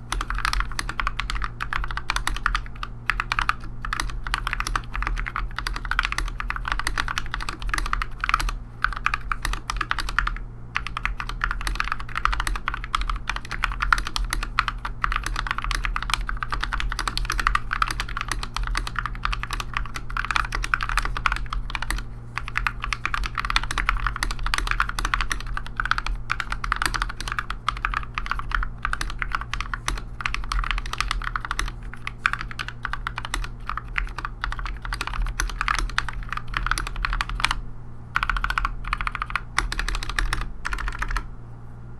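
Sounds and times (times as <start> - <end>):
mechanical keyboard typing: 0.0 - 37.6, 38.2 - 41.3
steady low hum: 0.0 - 41.9.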